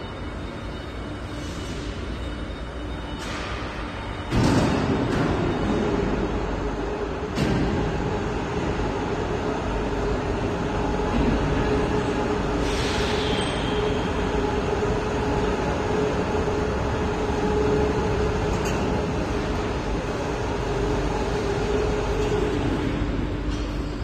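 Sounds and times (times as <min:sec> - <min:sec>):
metalworking machines humming: 0:00.0 - 0:24.0.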